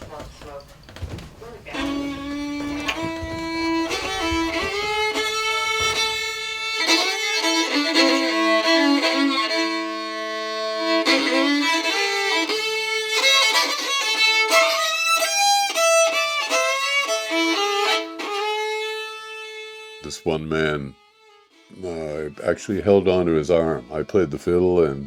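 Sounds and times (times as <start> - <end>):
solo fiddle tune: 1.7 - 25.0.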